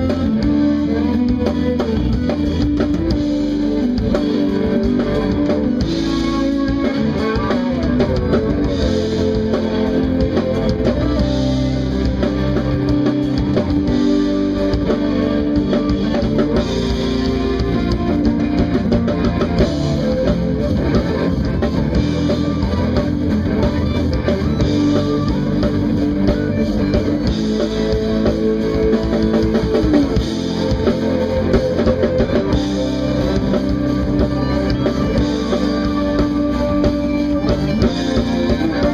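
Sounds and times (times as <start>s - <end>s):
drum kit: 0.0s - 38.9s
electric bass: 0.0s - 38.9s
electric guitar: 0.0s - 38.9s
keyboards: 0.0s - 38.9s.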